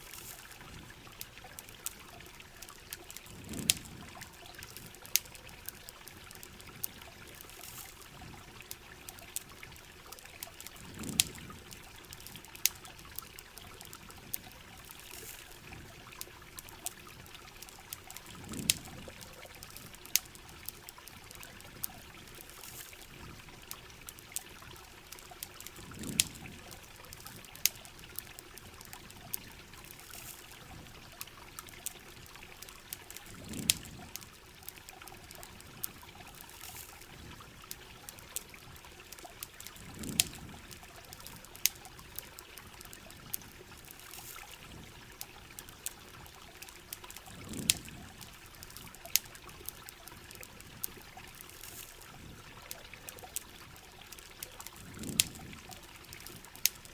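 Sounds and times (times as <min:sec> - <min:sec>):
campfire crackling and popping: 0:00.0 - 0:56.9
rain and trickling water: 0:00.0 - 0:56.9.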